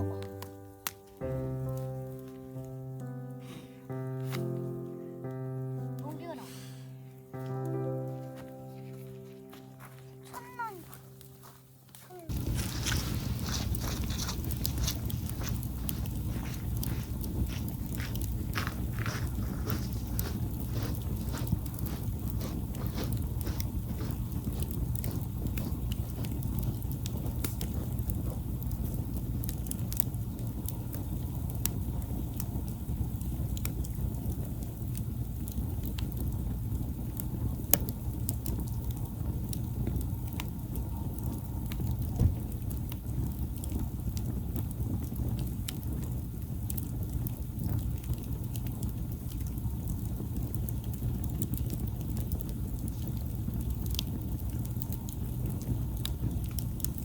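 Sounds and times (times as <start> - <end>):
campfire crackling and popping: 0.0 - 5.0, 7.1 - 57.0
low fire rumble: 0.0 - 57.0.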